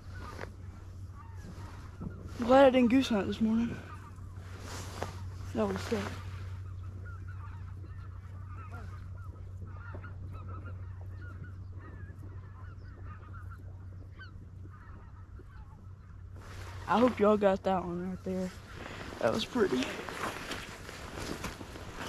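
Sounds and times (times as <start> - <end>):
geese honking: 0.0 - 22.0
steady low hum: 0.0 - 22.0.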